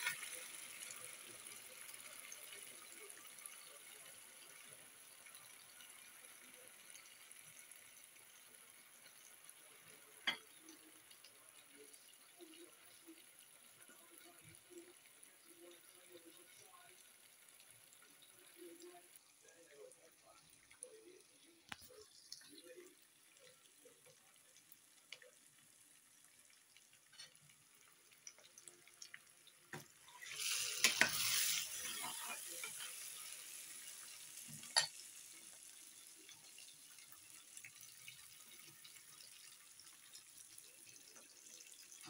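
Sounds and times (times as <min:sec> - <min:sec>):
stew bubbling in oil: 0:00.0 - 0:42.0.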